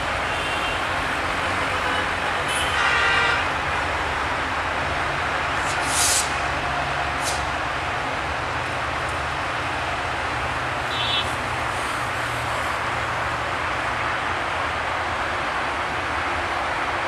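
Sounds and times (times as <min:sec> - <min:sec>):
locomotive engine hum: 0:00.0 - 0:17.0
rolling rail noise: 0:00.0 - 0:17.0.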